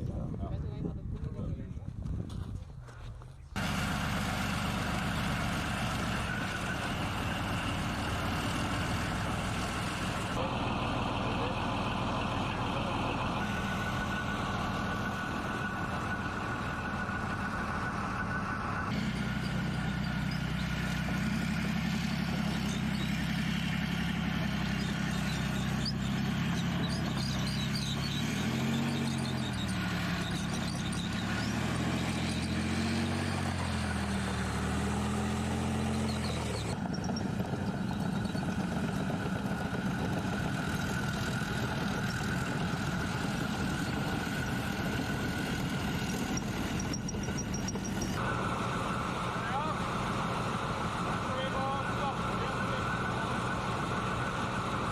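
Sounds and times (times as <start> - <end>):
heavy diesel engine running: 3.6 - 54.9.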